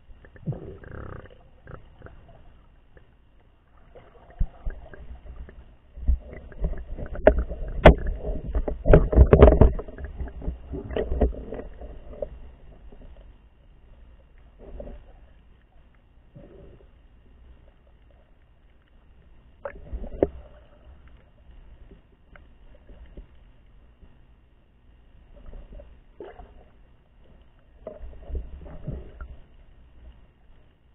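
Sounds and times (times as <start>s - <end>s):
underwater water sloshing: 0.0s - 30.9s.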